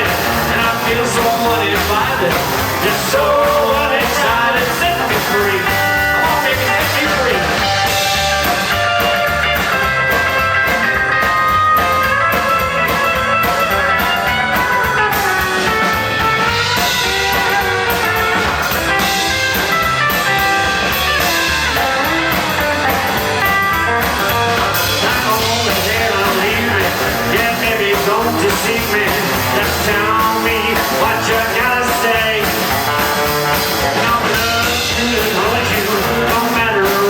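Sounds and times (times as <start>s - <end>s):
lead guitar: 0.0s - 37.0s
rock band playing: 0.0s - 37.0s.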